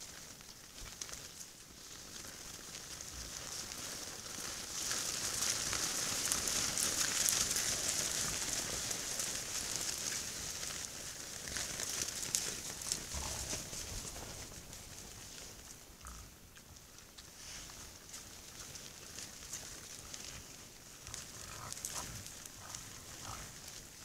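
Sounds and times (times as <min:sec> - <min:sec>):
wild boar rustling ground: 0:00.0 - 0:24.0.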